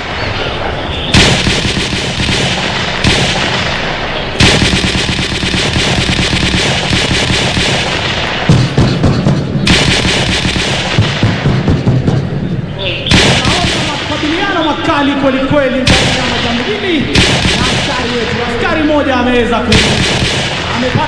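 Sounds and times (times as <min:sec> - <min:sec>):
automatic gunfire bursts: 0:01.1 - 0:12.1, 0:13.1 - 0:21.0.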